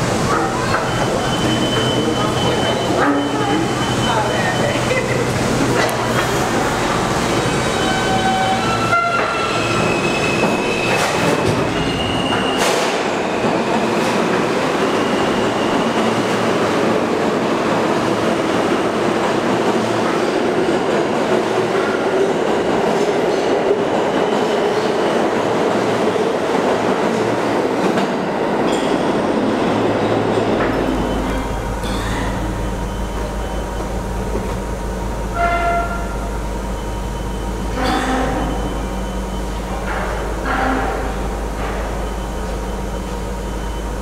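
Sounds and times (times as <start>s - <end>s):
subway train rumbling on rails: 0.0s - 44.0s.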